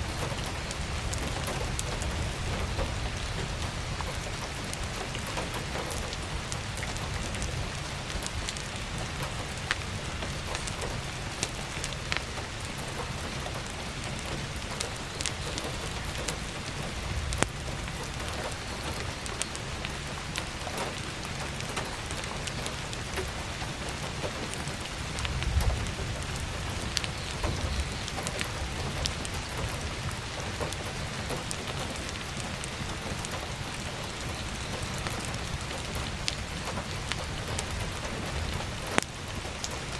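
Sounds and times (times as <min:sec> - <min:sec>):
burning firewood crackling: 0:00.0 - 0:39.9
heavy rain: 0:00.0 - 0:39.9.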